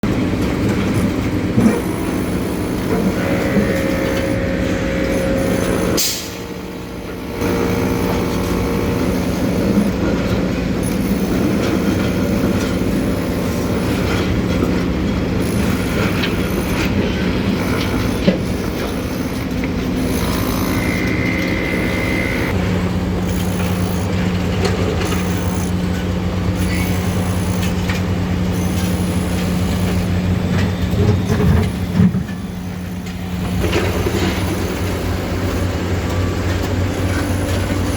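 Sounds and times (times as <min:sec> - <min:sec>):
heavy engine drone: 0:00.0 - 0:37.9.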